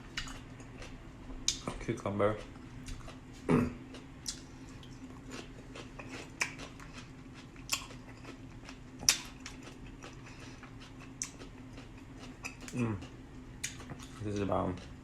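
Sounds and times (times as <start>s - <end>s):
chewing and crunching cucumber: 0.0s - 15.0s
faint steady hum: 0.0s - 15.0s.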